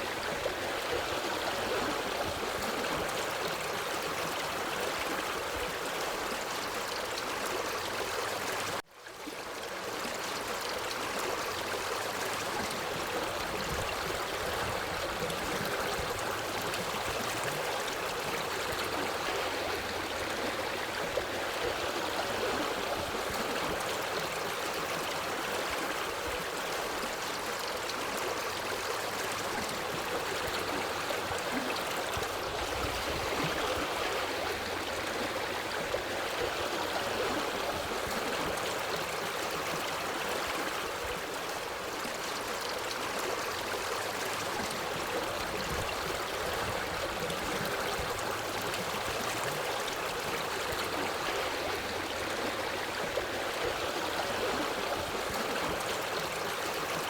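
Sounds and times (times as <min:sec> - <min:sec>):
stream rushing over rocks: 0:09.4 - 0:57.0.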